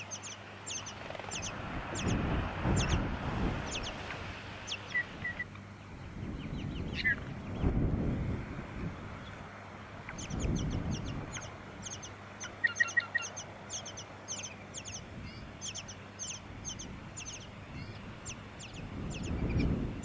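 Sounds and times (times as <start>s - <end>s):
nestlings begging calls: 0.0s - 7.8s, 9.1s - 20.0s
wind rumble on microphone: 0.7s - 12.1s, 14.7s - 20.0s.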